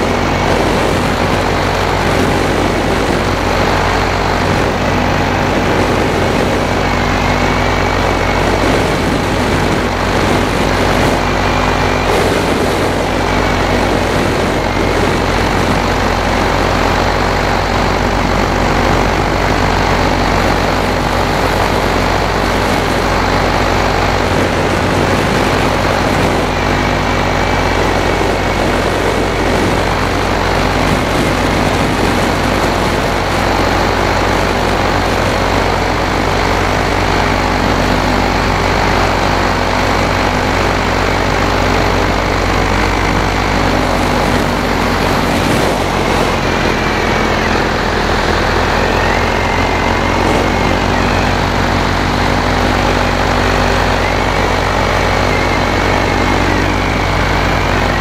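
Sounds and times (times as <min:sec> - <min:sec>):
paramotor engine drone: 0:00.0 - 0:58.0.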